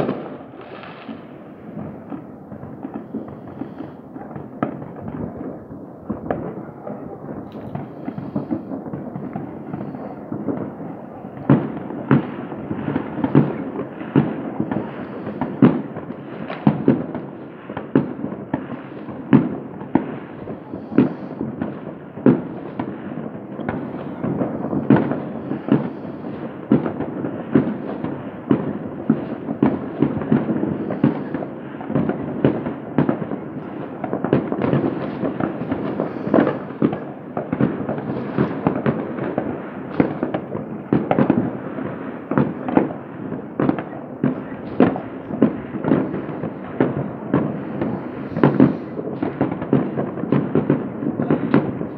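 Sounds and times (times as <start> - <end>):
fireworks bangs and pops: 0.0 - 51.9
loud single firework bangs: 0.0 - 51.9.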